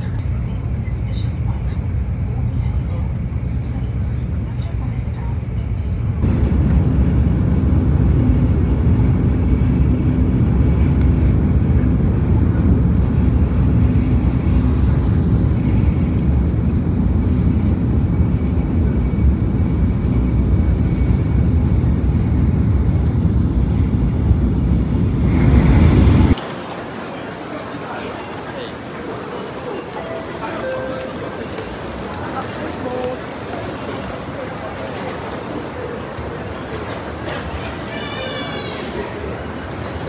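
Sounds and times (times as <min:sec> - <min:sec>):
train rumbling at high speed: 0:00.0 - 0:40.0.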